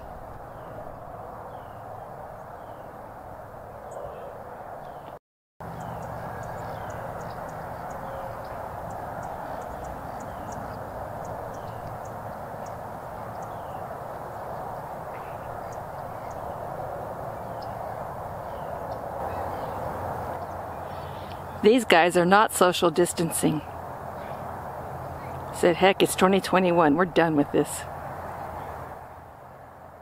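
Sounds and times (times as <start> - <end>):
outdoor background hiss and rumble: 0.0 - 30.0.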